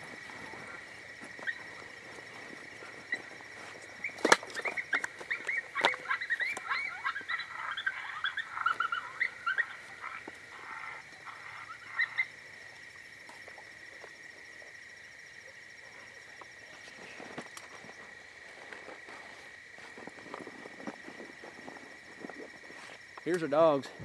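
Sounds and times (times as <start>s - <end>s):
coyotes yipping: 0.0s - 23.3s.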